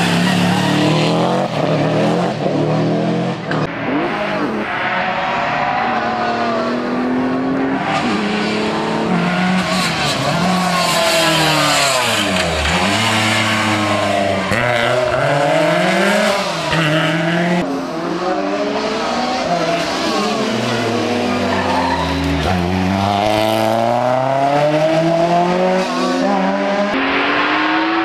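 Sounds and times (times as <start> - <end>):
rally car engine at full throttle: 0.0 - 28.0.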